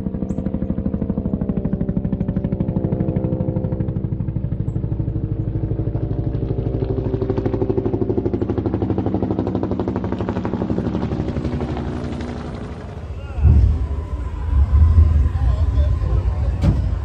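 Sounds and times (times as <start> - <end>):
big engine idling: 0.0 - 17.0.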